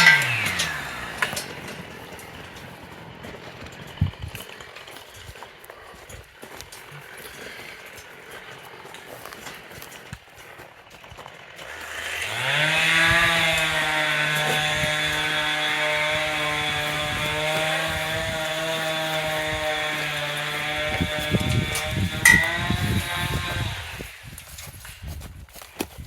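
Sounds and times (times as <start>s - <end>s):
small petrol engine running: 0.0s - 24.9s.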